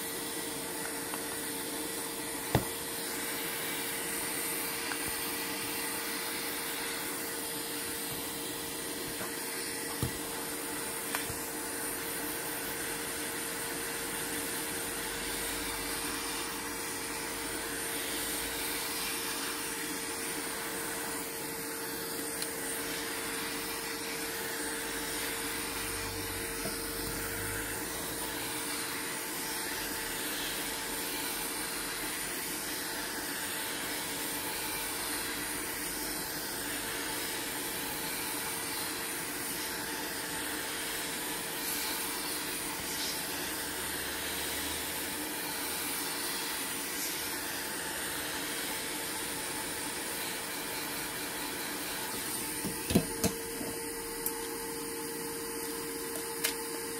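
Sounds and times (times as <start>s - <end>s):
electric blower rushing air: 0.0s - 56.9s.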